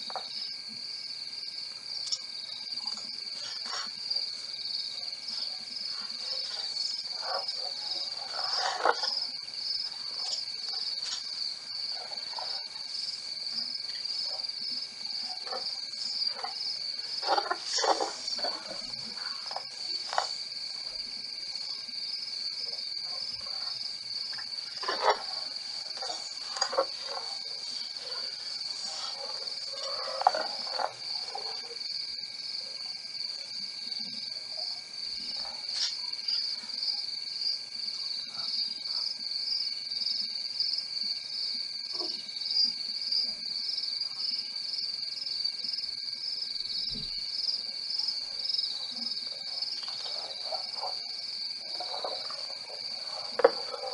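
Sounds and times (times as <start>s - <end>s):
night insects trilling: 0.0s - 53.9s.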